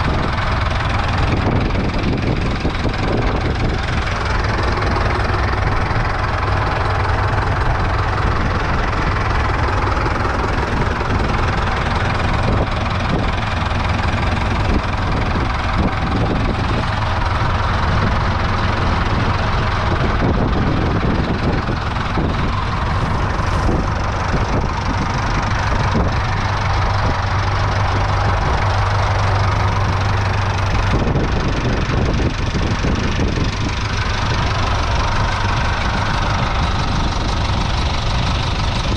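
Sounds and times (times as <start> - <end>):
diesel tractor engines droning: 0.0 - 38.9.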